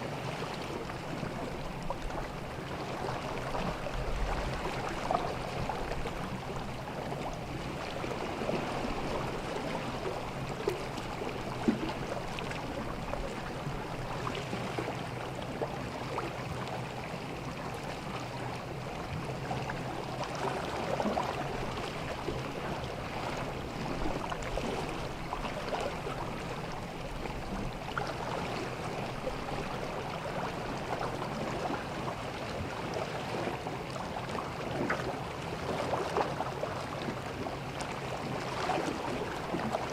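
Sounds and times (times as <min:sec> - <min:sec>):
water lapping at shore: 0:00.0 - 0:39.9.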